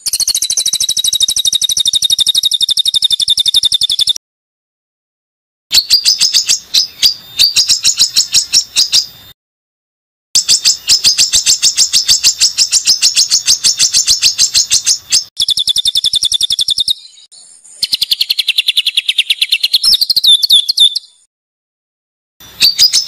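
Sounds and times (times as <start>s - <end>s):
songbird singing rapid high notes: 0.0s - 4.2s, 5.7s - 9.2s, 10.4s - 21.3s, 22.4s - 23.0s.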